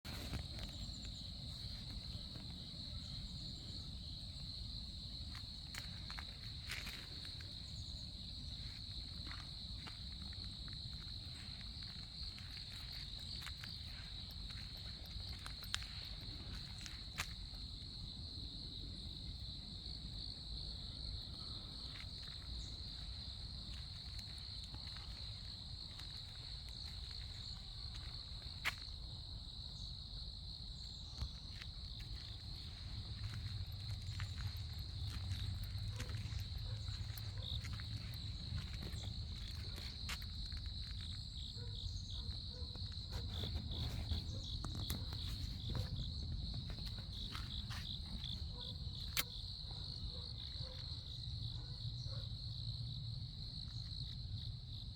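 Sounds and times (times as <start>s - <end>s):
crickets trilling: 0.1s - 54.9s.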